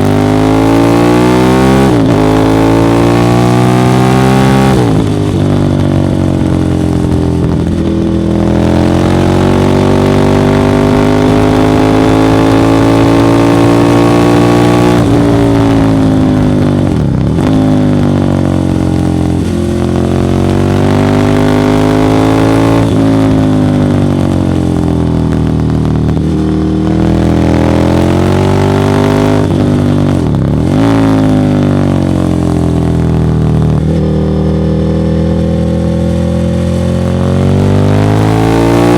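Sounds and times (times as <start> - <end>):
motorcycle engine under load: 0.0 - 38.9.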